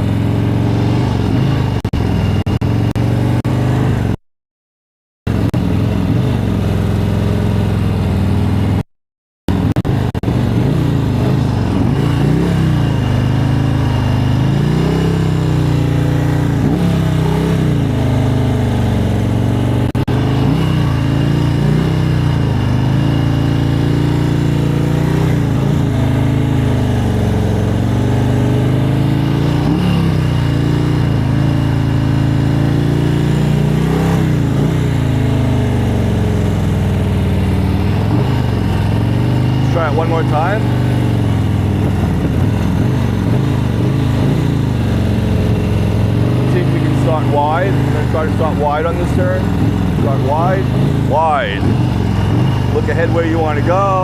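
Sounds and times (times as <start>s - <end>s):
motorcycle engine at low revs: 0.0s - 4.2s, 5.3s - 8.9s, 9.5s - 54.0s.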